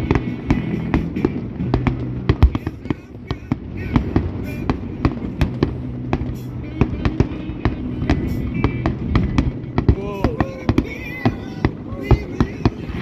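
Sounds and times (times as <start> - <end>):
background music: 0.0 - 13.0
fireworks bangs and cracks: 0.0 - 13.0
voices: 0.0 - 13.0.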